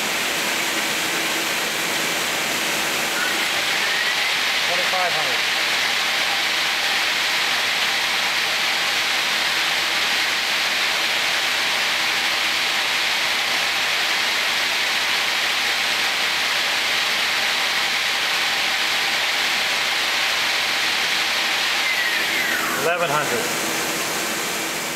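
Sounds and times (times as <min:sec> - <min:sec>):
lathe spindle whirring hiss: 0:00.0 - 0:24.9.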